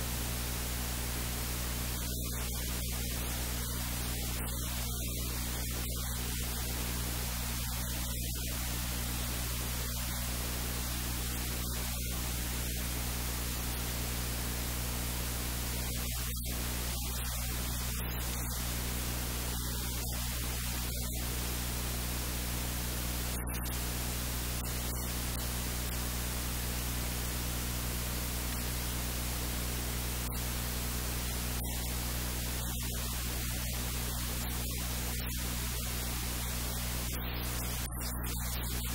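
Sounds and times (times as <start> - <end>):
static hiss: 0.0 - 38.9.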